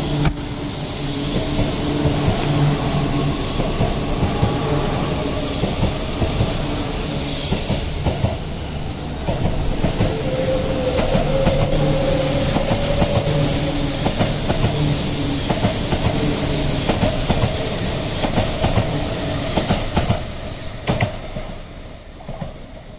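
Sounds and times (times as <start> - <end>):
train whine: 0.0 - 22.9.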